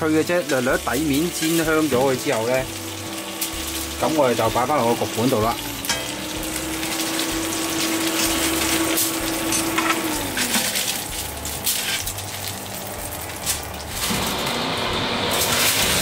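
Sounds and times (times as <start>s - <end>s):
chicken wings sizzling in oil: 0.0s - 16.0s.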